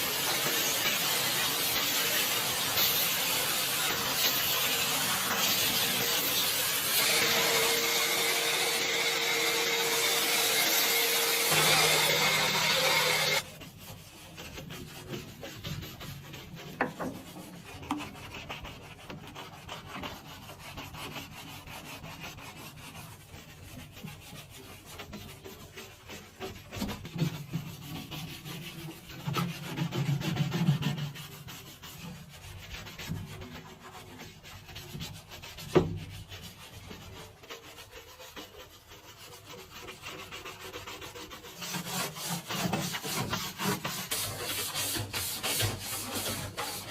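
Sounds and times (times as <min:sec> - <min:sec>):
rubbing and scrubbing: 0:00.0 - 0:46.9.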